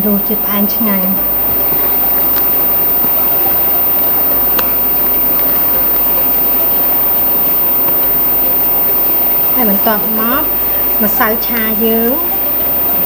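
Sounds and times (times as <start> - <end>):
pot simmering hiss: 0.0 - 13.0.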